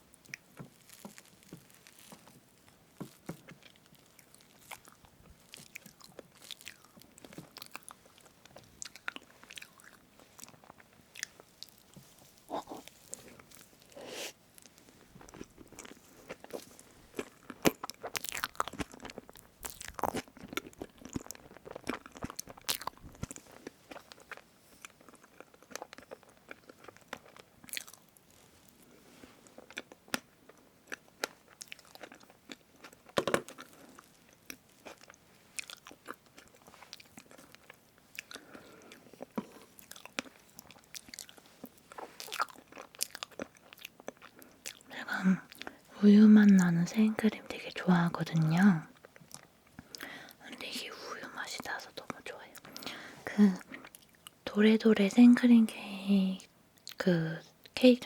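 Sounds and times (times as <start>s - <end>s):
chewing and smacking mouth sounds: 0.2s - 14.0s, 14.6s - 54.4s.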